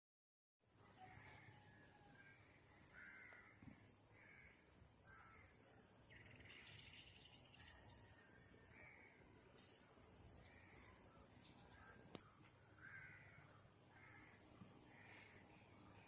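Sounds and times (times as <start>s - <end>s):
high insect buzz: 0.8s - 16.0s
birds calling: 2.1s - 16.0s.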